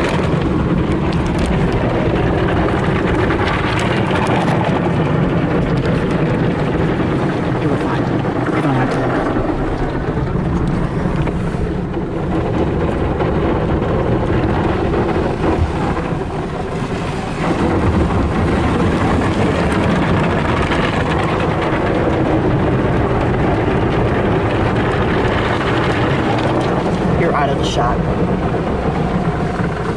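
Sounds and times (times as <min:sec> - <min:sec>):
car wash water spray and brushes: 0:00.0 - 0:29.9.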